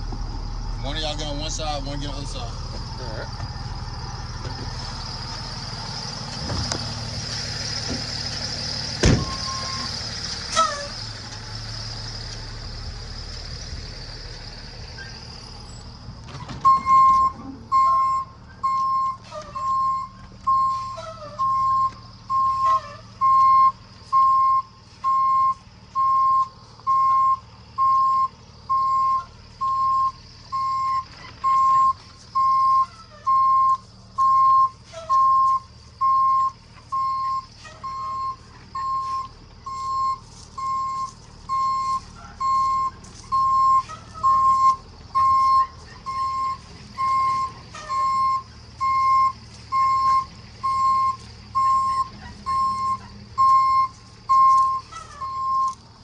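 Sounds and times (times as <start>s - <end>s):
truck engine humming low: 0.0s - 56.0s
truck reverse alarm beeping: 0.0s - 56.0s.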